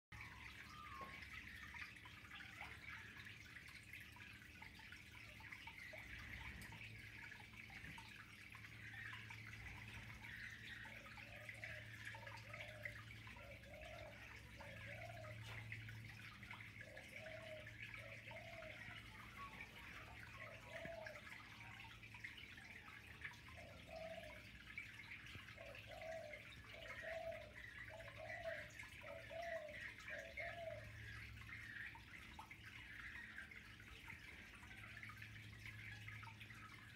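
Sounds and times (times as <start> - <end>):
water trickling and dripping: 0.1 - 36.9.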